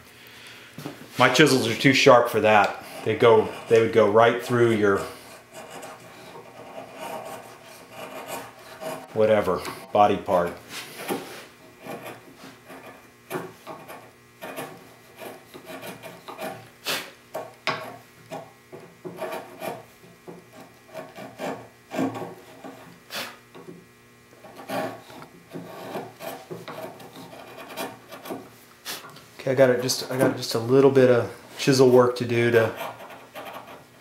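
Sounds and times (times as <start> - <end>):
chisel scraping wood: 1.3 - 23.8, 24.4 - 34.0.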